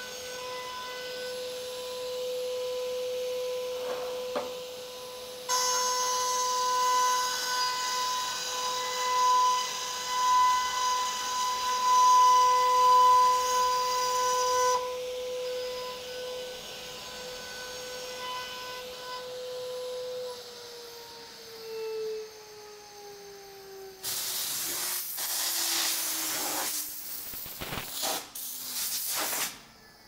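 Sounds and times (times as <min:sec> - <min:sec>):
router bit cutting wood: 0:00.0 - 0:28.0
router spindle whine: 0:00.0 - 0:28.6.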